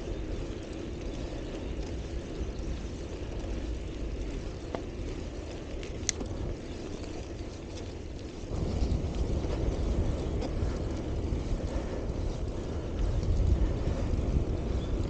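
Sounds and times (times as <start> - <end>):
bicycle tyre noise: 0.0 - 15.0
wind on microphone: 0.0 - 15.0.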